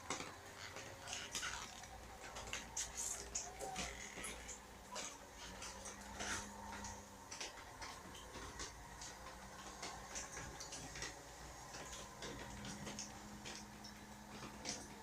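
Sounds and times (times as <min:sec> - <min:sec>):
water dripping: 0:00.0 - 0:15.0.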